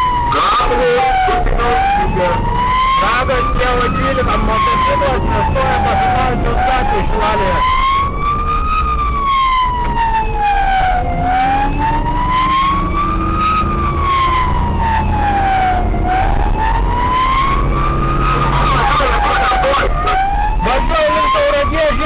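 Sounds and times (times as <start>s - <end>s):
engine and road noise: 0.0s - 22.0s
police siren wailing: 0.0s - 22.0s.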